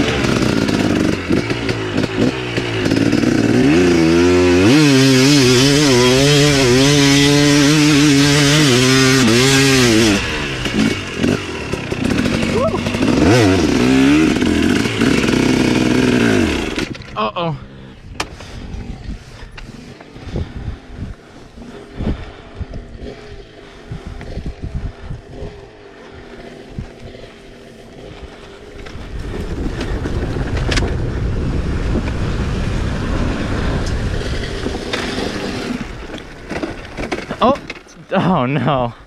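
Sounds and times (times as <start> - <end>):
dirt bike engine: 0.0 - 39.0.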